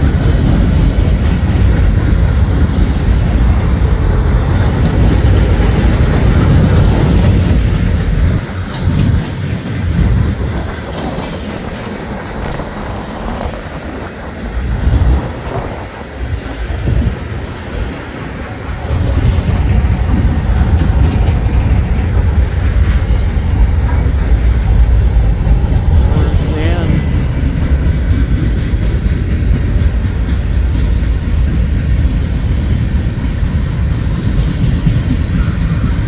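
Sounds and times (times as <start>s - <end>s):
heavy low train rumble: 0.0s - 36.0s
train wheels clacking over rail joints: 0.0s - 36.0s.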